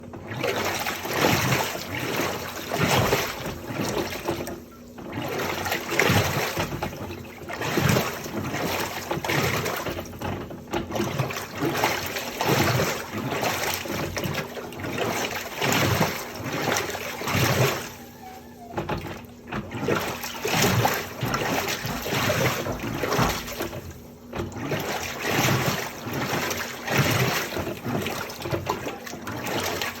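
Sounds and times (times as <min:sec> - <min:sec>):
water sloshing in washing machine: 0:00.0 - 0:30.0.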